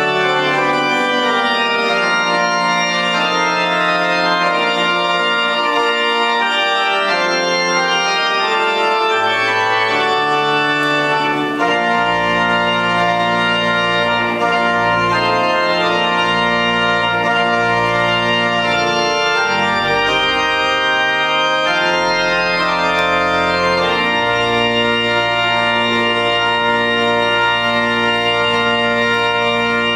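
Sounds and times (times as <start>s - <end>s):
church organ chords: 0.0s - 29.9s
deep organ pedal bass notes: 0.0s - 29.9s.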